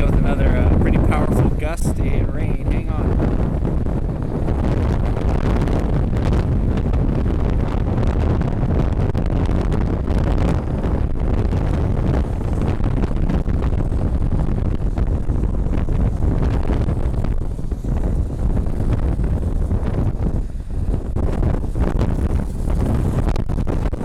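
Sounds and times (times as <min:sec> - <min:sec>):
gusty wind on microphone: 0:00.0 - 0:24.0.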